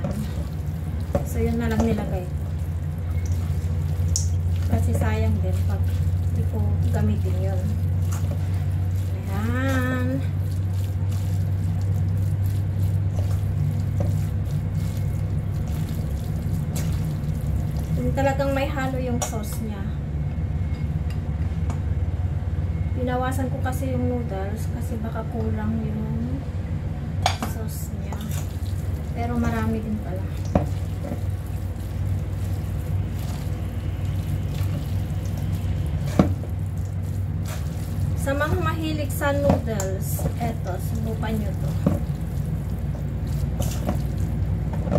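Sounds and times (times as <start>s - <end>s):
noodles squelching in metal bowl: 0.0s - 19.7s, 27.6s - 44.9s
low hum: 0.0s - 44.9s.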